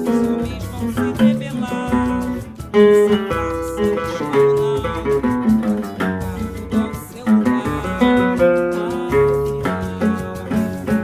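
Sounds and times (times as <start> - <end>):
nylon-string guitar playing samba: 0.0 - 11.0.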